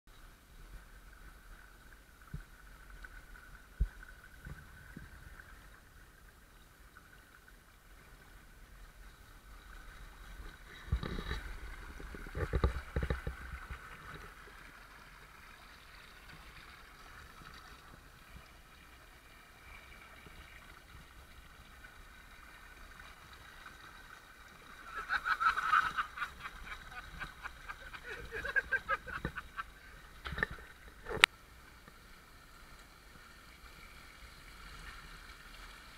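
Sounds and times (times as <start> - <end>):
creek water running: 0.1 - 35.9.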